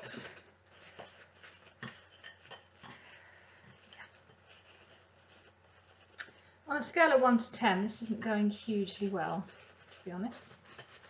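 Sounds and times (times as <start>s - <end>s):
cling film crinkling: 0.0s - 7.2s, 7.8s - 11.0s.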